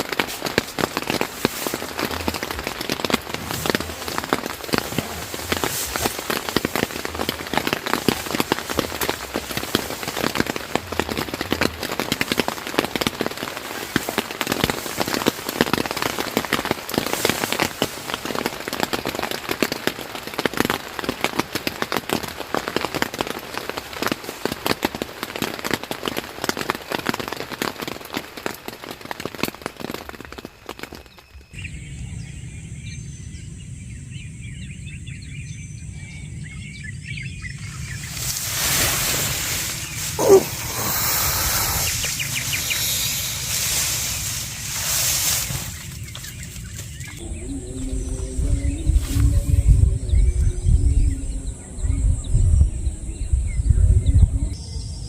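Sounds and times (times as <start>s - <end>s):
heavy rain on tent fabric: 0.0s - 31.6s, 37.6s - 51.1s.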